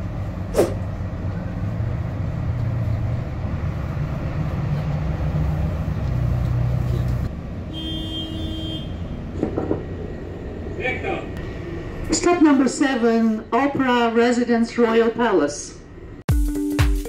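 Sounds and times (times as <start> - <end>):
bus engine and road drone: 0.0 - 16.3.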